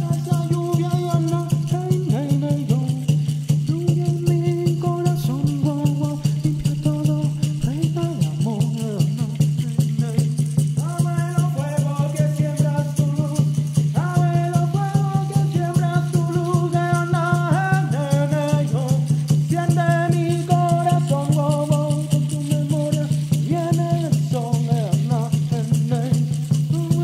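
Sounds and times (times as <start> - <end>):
person chanting: 0.0 - 3.0, 4.0 - 27.0
gourd rattle shaking: 0.0 - 27.0.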